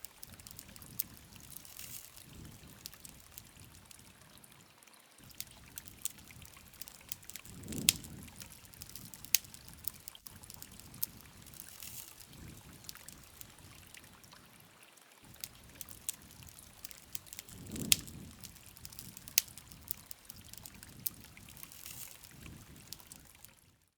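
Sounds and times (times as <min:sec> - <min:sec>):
flames rushing: 0:00.0 - 0:04.1, 0:05.2 - 0:14.2, 0:15.3 - 0:23.5
campfire crackling and popping: 0:00.0 - 0:04.6, 0:05.2 - 0:14.5, 0:15.2 - 0:23.9.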